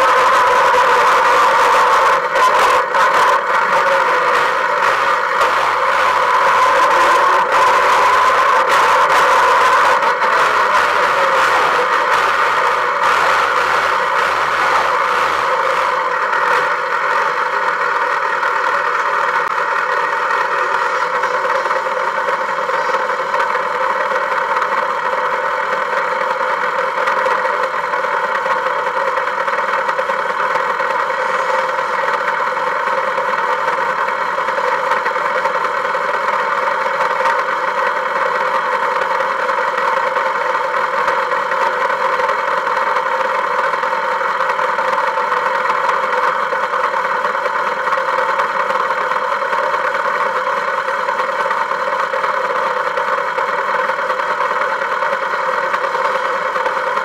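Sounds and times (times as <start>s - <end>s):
vehicle engine running steadily: 0.0s - 57.0s.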